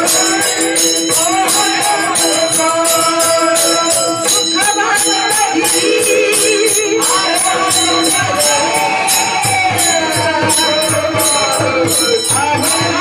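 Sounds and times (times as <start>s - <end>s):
jingling hand percussion: 0.0s - 13.0s
person singing: 0.0s - 13.0s.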